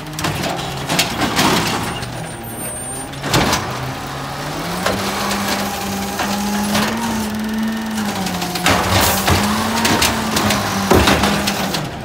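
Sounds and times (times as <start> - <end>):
garbage truck engine revving: 0.0 - 12.0.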